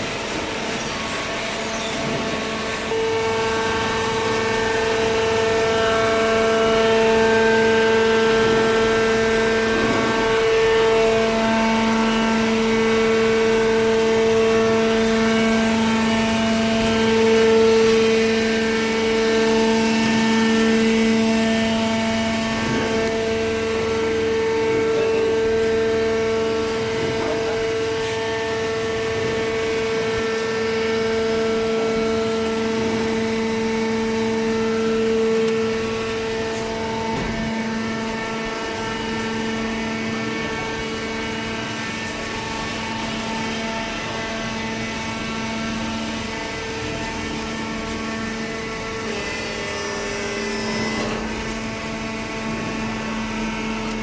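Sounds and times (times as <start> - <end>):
baler motor and pump humming: 0.0 - 54.0.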